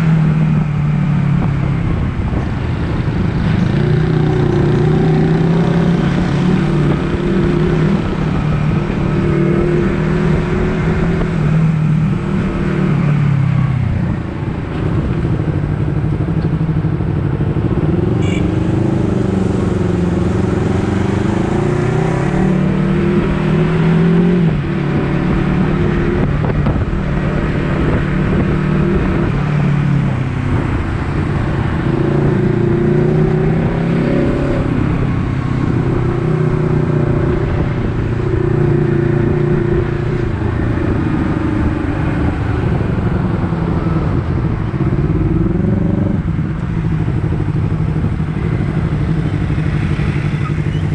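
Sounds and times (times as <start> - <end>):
motorcycle engine revving: 1.4 - 50.9.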